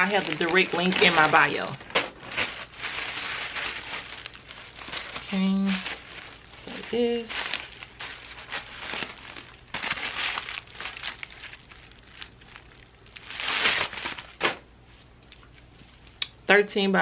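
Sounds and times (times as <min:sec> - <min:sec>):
packaging crinkling: 0:00.0 - 0:16.1.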